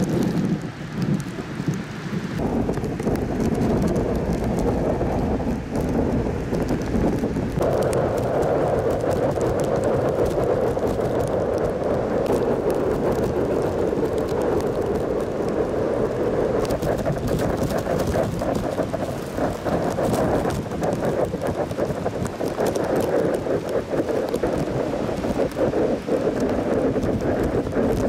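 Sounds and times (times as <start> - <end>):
sea surf: 0.0 - 28.0
strong wind: 0.0 - 28.0.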